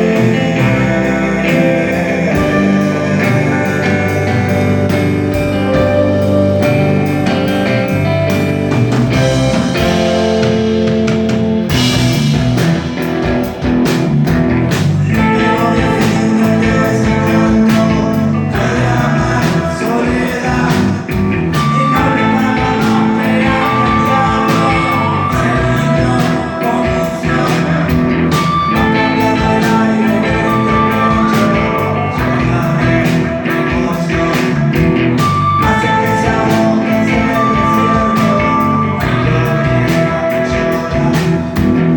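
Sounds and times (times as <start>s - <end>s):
electric guitars: 0.0s - 41.9s
rock band playing live: 0.0s - 41.9s
drum beat: 4.4s - 41.9s.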